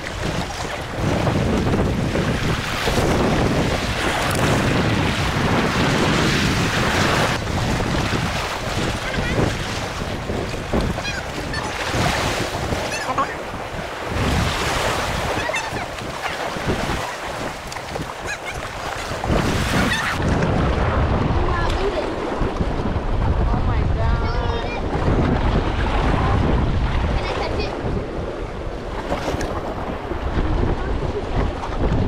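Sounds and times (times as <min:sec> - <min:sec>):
water lapping against pilings: 0:00.0 - 0:32.0
wind buffeting microphone: 0:00.0 - 0:32.0.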